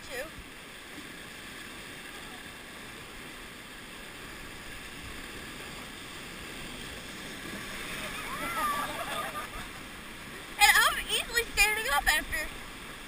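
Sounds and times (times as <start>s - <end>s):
whitewater rapids rushing: 1.4s - 13.0s.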